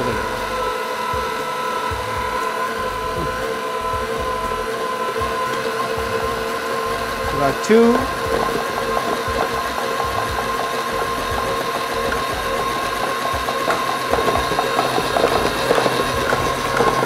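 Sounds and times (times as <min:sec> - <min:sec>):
beater ticking through dough: 0:00.0 - 0:17.0
stand mixer motor whine: 0:00.0 - 0:17.0.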